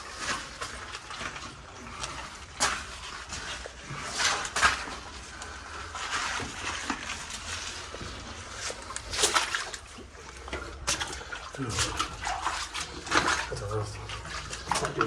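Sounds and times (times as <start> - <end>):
footsteps in mud: 0.0 - 15.0.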